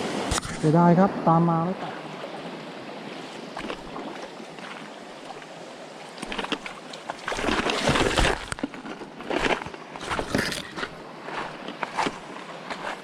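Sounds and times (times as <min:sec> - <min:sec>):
stream water flowing: 0:00.0 - 0:13.0
water sloshing and splashing: 0:01.8 - 0:13.0.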